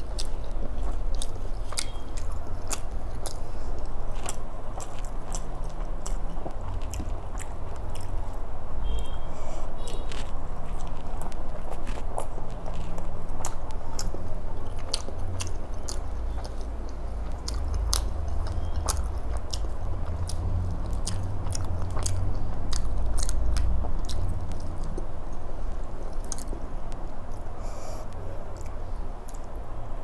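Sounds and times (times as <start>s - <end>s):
close chewing: 0.0s - 8.4s, 9.8s - 27.5s.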